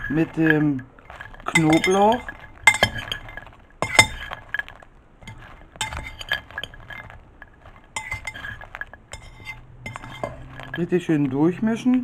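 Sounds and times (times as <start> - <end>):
metal spoon clinking on ceramic dish: 1.2 - 10.9.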